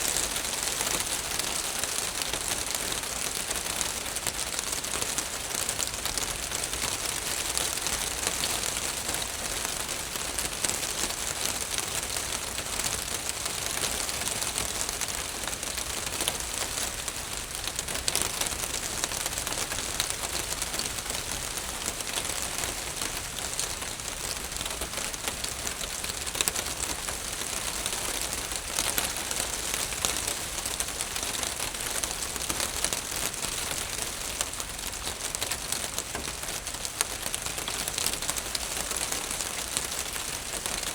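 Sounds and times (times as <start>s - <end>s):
rain drumming on a roof: 0.0s - 40.9s.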